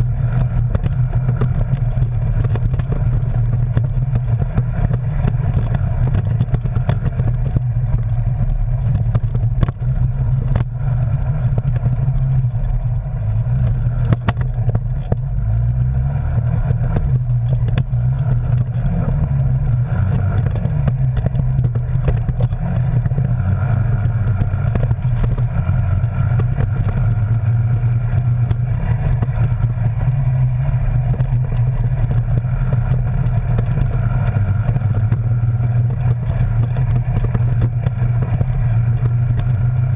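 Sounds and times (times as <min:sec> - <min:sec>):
vehicle engine running: 0:00.0 - 0:39.9
vehicle jolting over rough ground: 0:00.0 - 0:39.9.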